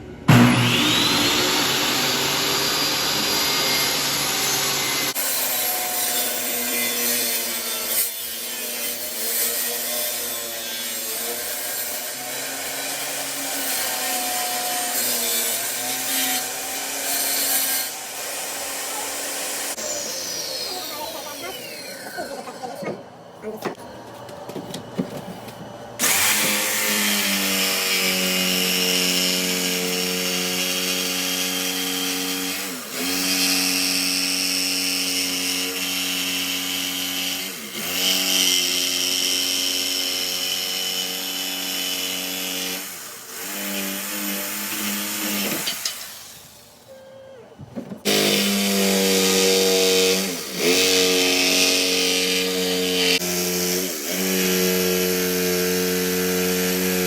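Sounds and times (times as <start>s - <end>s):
electric saw cutting wood: 0.0s - 23.8s, 26.0s - 46.9s, 47.8s - 57.0s.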